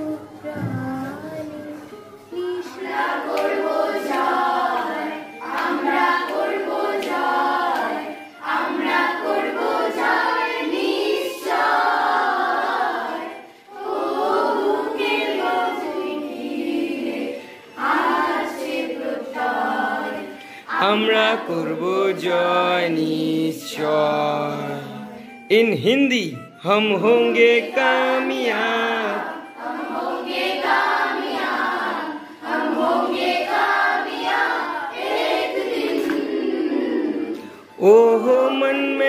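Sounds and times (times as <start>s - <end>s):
children singing together: 0.0s - 25.3s, 27.4s - 37.8s.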